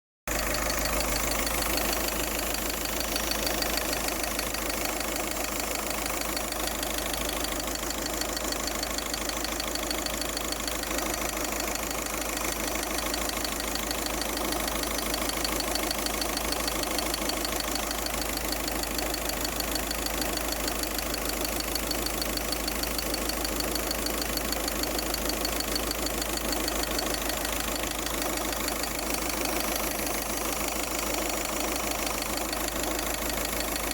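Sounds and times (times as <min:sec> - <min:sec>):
engine idling: 0:00.3 - 0:33.9
fast even ticking: 0:00.3 - 0:33.9.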